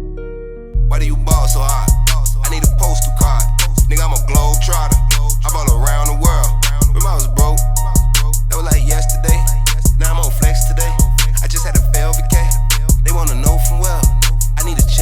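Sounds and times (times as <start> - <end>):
hip hop beat with heavy bass: 0.8 - 15.0
person rapping: 0.8 - 15.0.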